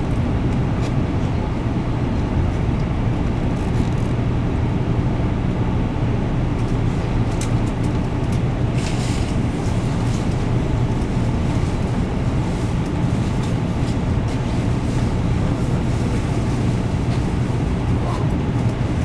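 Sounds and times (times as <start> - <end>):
train rumble from inside car: 0.0 - 19.0.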